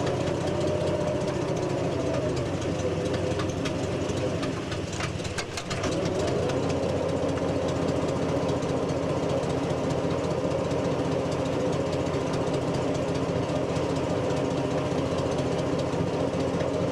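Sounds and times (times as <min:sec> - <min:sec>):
petrol engine running: 0:00.0 - 0:16.9.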